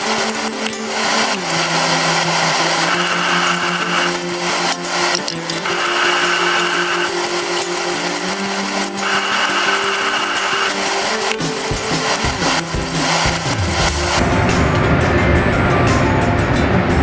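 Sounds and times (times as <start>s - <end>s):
gas burner rushing: 0.0s - 14.6s.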